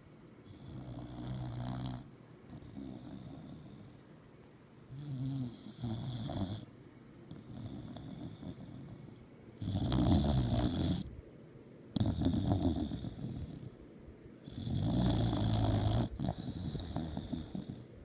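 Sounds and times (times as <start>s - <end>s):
dog snoring: 0.4s - 4.2s, 4.9s - 11.2s, 11.9s - 18.0s.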